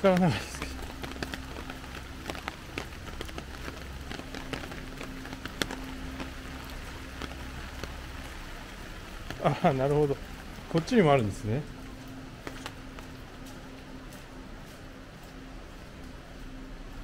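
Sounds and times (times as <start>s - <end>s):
low steady hum: 0.0s - 17.0s
raindrops ticking: 0.0s - 17.0s
steady rain hiss: 0.0s - 17.0s.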